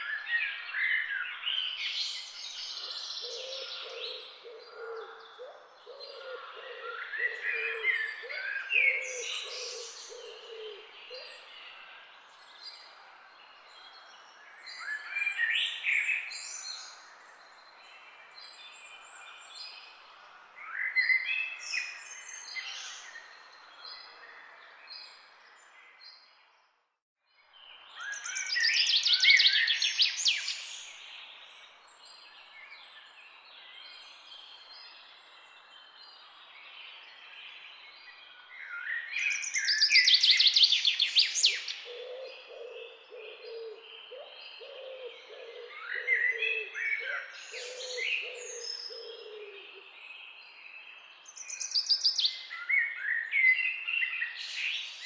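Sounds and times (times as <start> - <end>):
birds chirping and trilling: 0.0 - 26.7, 27.6 - 55.0.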